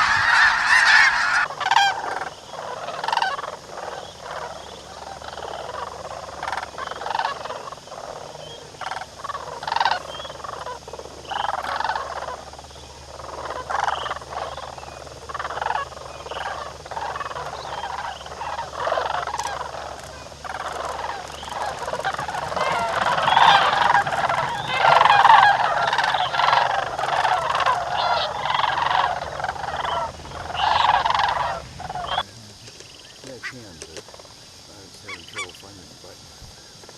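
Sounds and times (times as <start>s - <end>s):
flock of birds calling: 0.0s - 36.9s.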